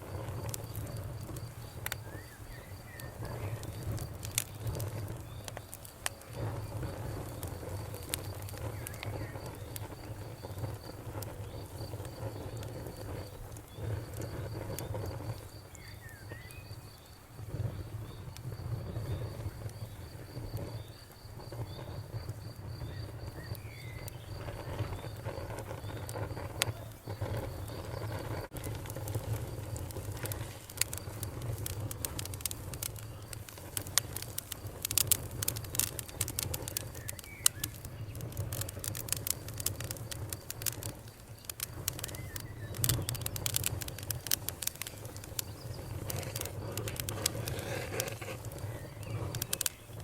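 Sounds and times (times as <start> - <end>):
bonfire crackling and popping: 0.0 - 50.0
crickets chirping: 0.0 - 50.0.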